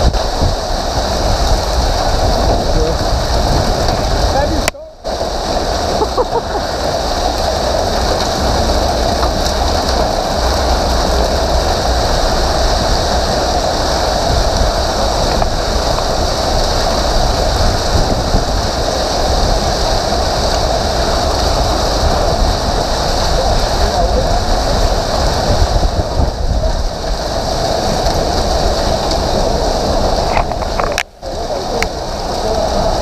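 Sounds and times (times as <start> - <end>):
hail and heavy rain: 0.0 - 33.0.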